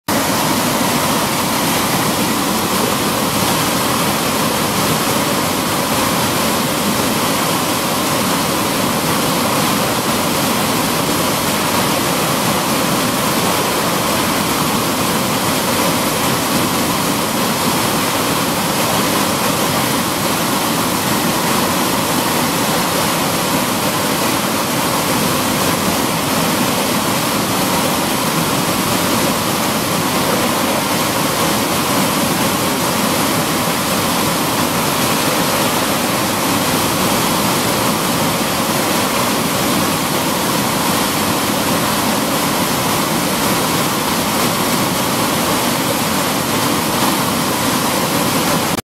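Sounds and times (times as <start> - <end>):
water rushing through rock channel: 0.1 - 48.8.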